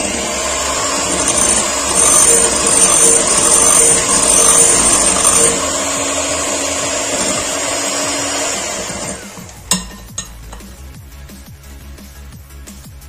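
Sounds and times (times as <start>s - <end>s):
electric hand mixer running: 0.0s - 10.8s.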